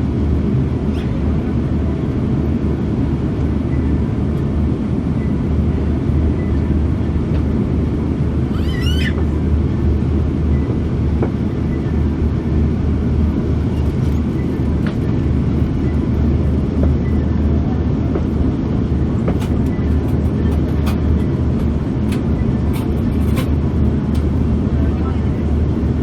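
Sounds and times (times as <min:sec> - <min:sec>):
airliner cabin roar: 0:00.0 - 0:26.0.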